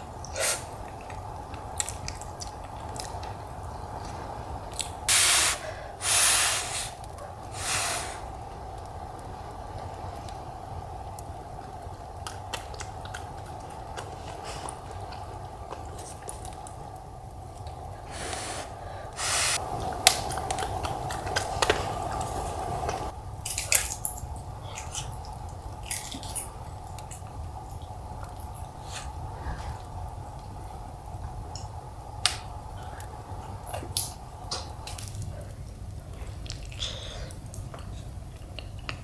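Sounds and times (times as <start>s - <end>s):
soft chewing: 0.2s - 5.0s, 8.5s - 17.9s, 19.6s - 30.6s, 31.2s - 39.0s.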